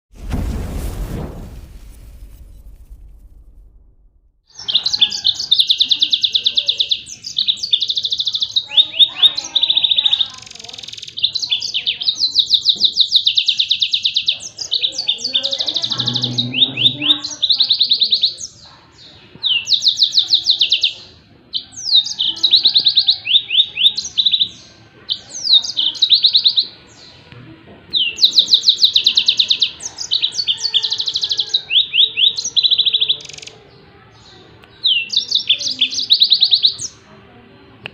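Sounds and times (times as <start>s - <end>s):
canary singing fast trills: 4.5s - 27.2s, 27.9s - 37.1s.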